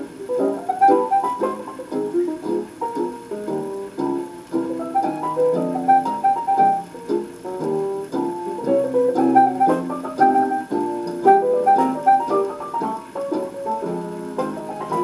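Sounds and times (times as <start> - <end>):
piano music from old record: 0.0 - 15.0.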